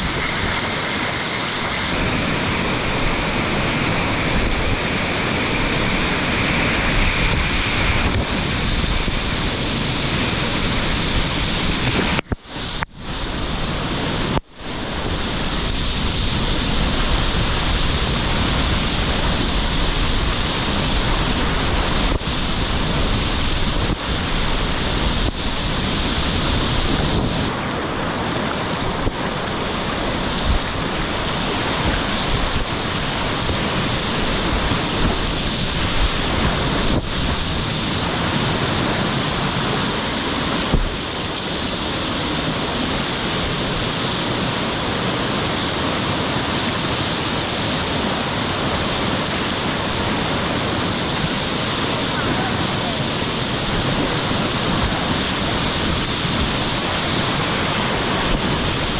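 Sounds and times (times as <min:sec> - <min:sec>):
rushing river rapid: 0:00.0 - 0:58.9
wind buffeting microphone: 0:00.0 - 0:58.9.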